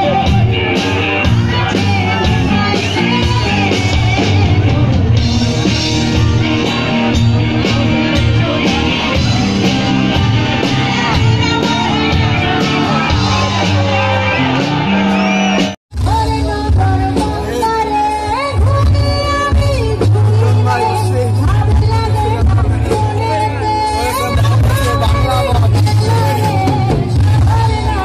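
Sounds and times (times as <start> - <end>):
person singing into a microphone: 0.0 - 14.4, 16.0 - 28.0
electric guitars: 0.0 - 28.0
live rock band playing: 0.0 - 28.0.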